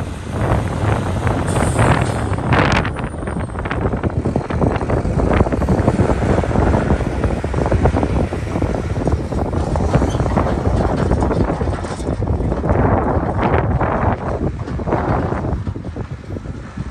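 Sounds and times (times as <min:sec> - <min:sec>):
diesel truck engine driving away: 0:00.0 - 0:16.9
wind buffeting microphone: 0:00.0 - 0:16.9.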